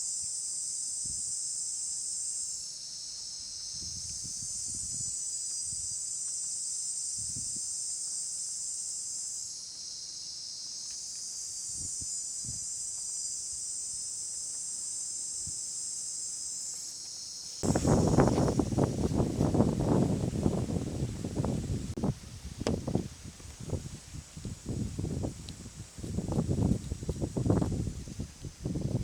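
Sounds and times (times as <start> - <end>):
shrill insect chorus: 0.0 - 29.0.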